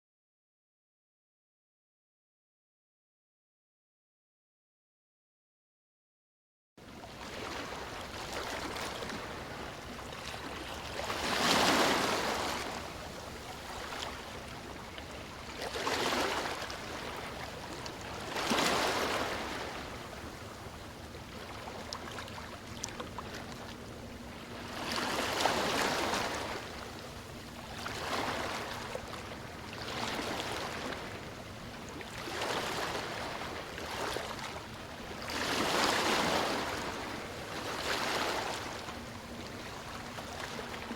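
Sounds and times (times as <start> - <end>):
background surf wash: 6.9 - 40.9
waves breaking on beach: 7.2 - 23.6, 24.4 - 40.9.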